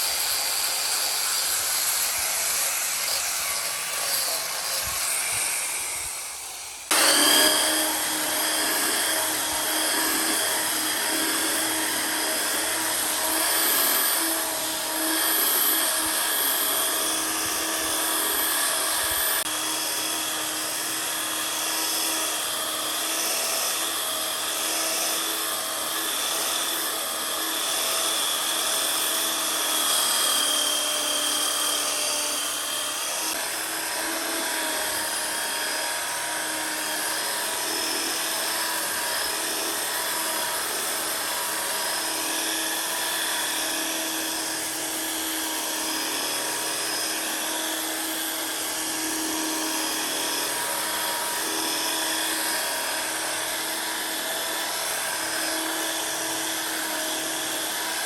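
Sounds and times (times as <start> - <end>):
power tool whining: 0.0 - 58.0.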